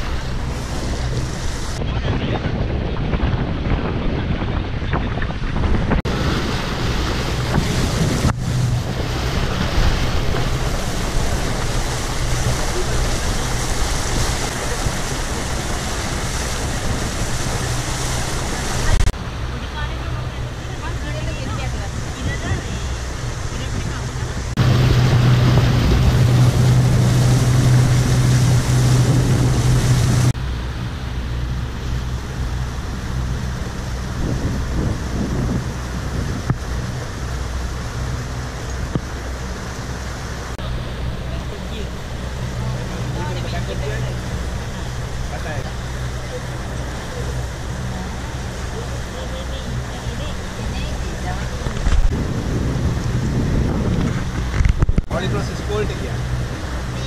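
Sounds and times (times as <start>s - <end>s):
motorboat engine drone: 0.0s - 57.0s
rushing water: 0.0s - 57.0s
wind buffeting microphone: 0.0s - 57.0s.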